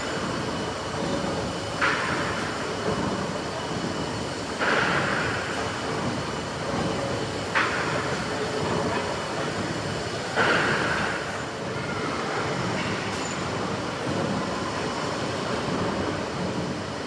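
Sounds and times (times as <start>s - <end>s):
steam pumping engine running: 0.0s - 17.0s.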